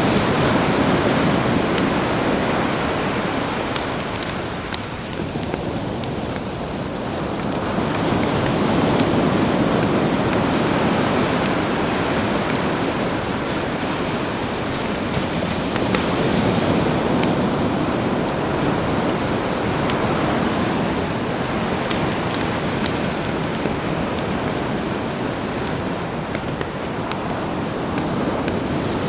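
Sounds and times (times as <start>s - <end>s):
campfire crackling and popping: 0.0s - 29.0s
sea waves washing in: 0.0s - 29.0s.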